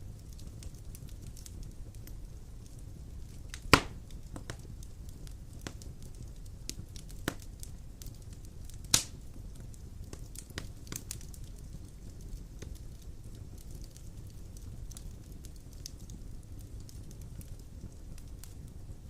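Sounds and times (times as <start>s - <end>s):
fire crackles: 0.0s - 19.0s
loud fire pops: 0.0s - 19.0s
low rumble of flames: 0.0s - 19.0s.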